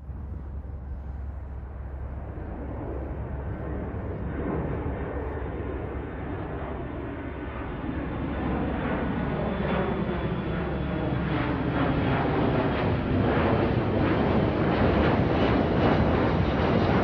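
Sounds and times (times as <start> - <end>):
airplane rumble and rush: 0.0 - 17.0.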